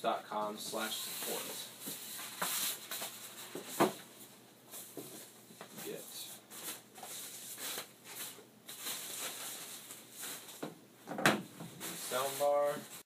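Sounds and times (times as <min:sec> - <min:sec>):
plastic wrapping rustling: 0:00.7 - 0:04.1, 0:04.7 - 0:10.7, 0:11.5 - 0:13.0.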